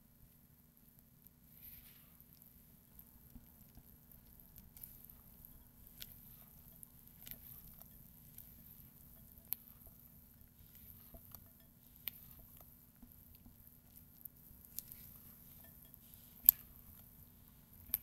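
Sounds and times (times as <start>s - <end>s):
spatula squishing batter: 1.3s - 18.0s.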